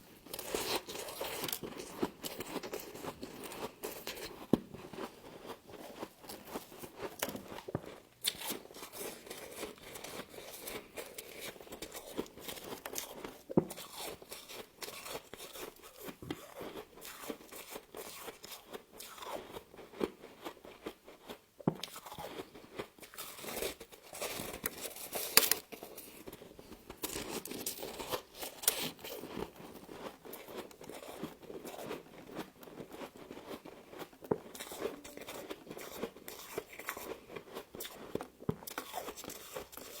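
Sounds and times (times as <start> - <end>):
frost crunching being chewed: 0.0 - 40.0.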